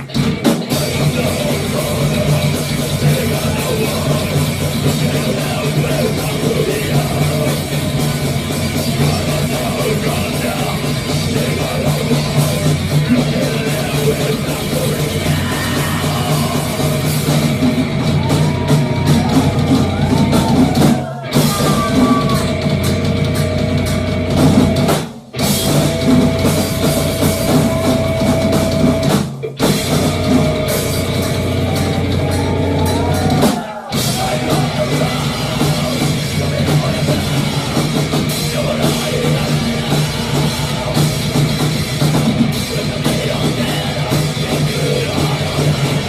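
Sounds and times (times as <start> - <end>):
bass guitar: 0.0 - 46.0
distorted guitars: 0.0 - 46.0
drum kit: 0.0 - 46.0.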